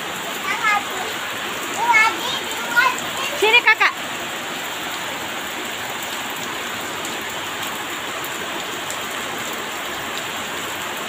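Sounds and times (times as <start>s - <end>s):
heavy rain on street and roofs: 0.0s - 11.0s.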